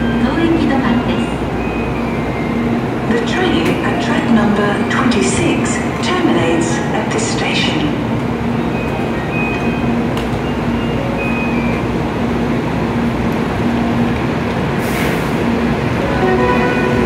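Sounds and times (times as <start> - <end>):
stationary train humming: 0.0 - 17.0.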